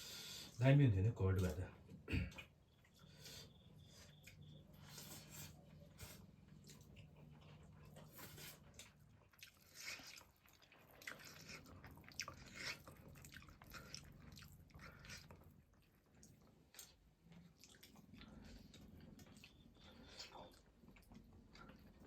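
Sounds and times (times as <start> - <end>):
mouth chewing food: 1.3 - 22.0.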